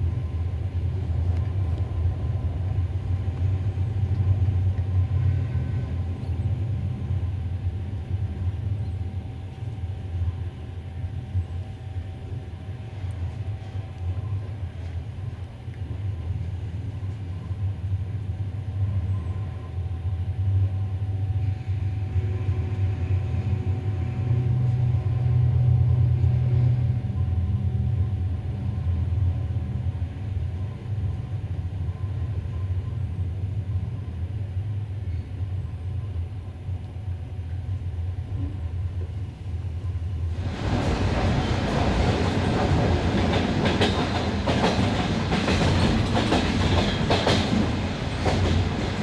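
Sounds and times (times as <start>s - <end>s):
train rumble from inside carriage: 0.0s - 49.0s.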